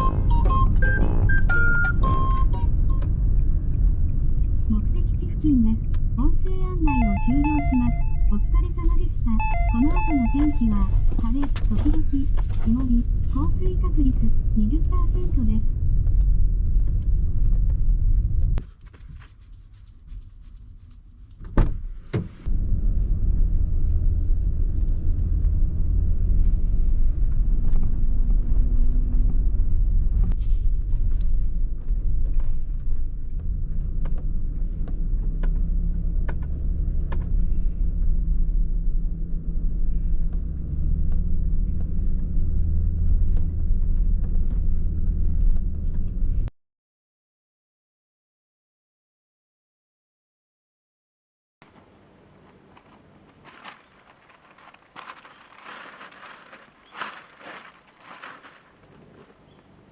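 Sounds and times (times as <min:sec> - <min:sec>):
van engine and road rumble: 0:00.0 - 0:46.5, 0:51.6 - 0:59.9.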